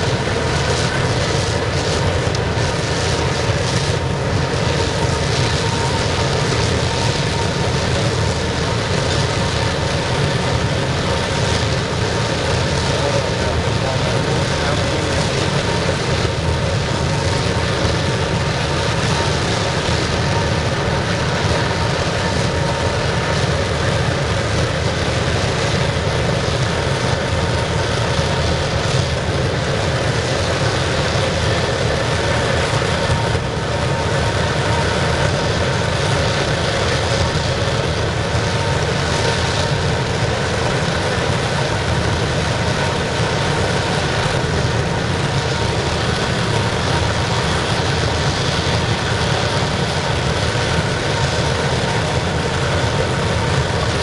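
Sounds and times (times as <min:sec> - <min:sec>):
oil burner roaring: 0:00.0 - 0:54.0.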